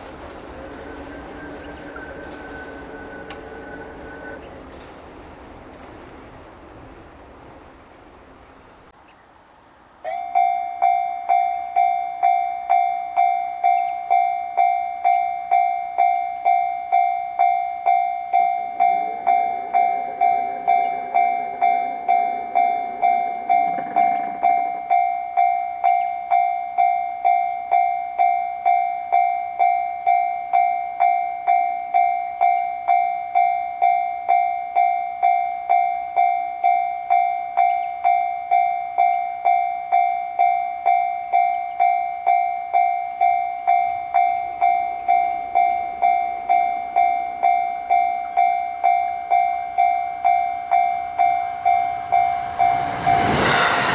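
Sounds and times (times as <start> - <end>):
electronic crossing warning bell: 0.0 - 5.6, 10.0 - 53.9.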